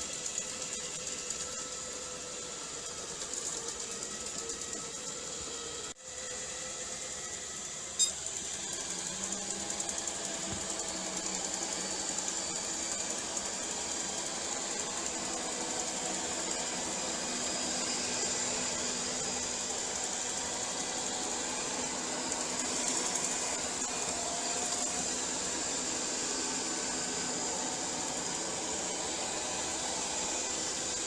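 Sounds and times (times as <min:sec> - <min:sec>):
robot vacuum cleaner whirring: 0:00.0 - 0:31.0.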